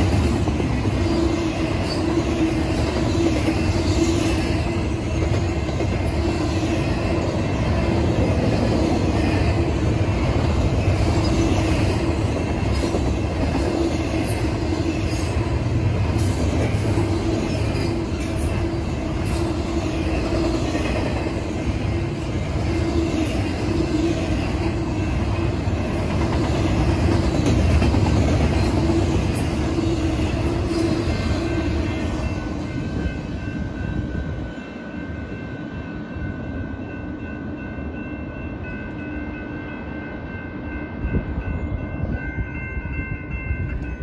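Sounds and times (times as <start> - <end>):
freight train rumbling past: 0.0 - 44.0
railroad crossing bell ringing: 0.0 - 44.0.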